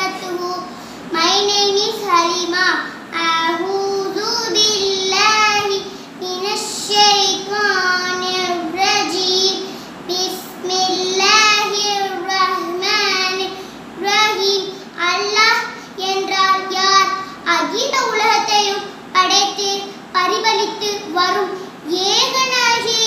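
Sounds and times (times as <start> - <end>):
girl reciting in sing-song chant: 0.0 - 23.0.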